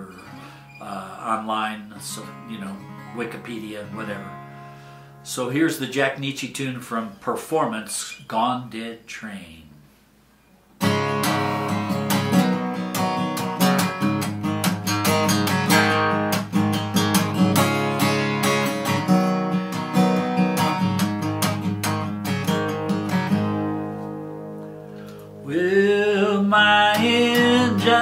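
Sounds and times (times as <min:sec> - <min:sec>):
acoustic guitar strumming: 0:00.0 - 0:07.2, 0:10.4 - 0:28.0.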